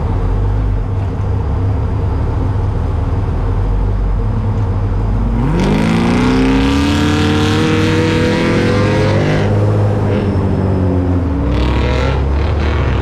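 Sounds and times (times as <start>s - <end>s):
truck engine accelerating hard: 0.0s - 13.0s.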